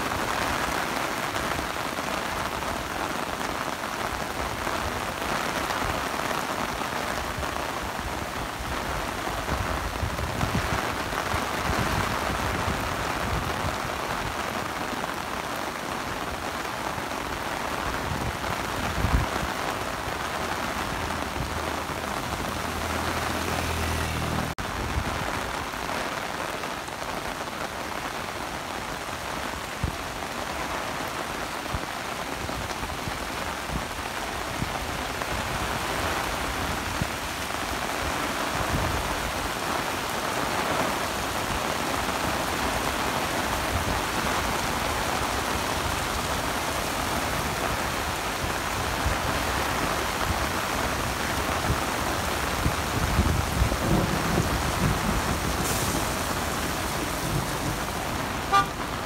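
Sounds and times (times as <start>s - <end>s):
heavy rain pouring: 0.0s - 59.0s
rain pattering on umbrella: 0.0s - 59.0s.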